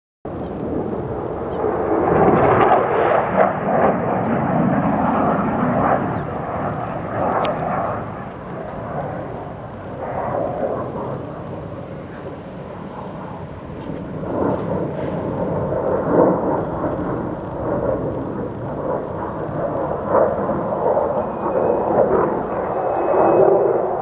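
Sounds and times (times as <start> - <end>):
airplane flying over: 0.3 - 24.0.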